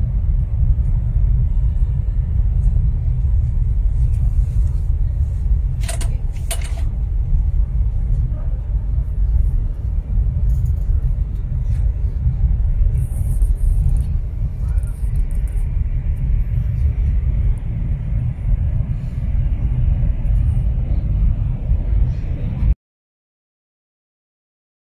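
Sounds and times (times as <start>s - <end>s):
train rumbling at speed: 0.0s - 22.8s.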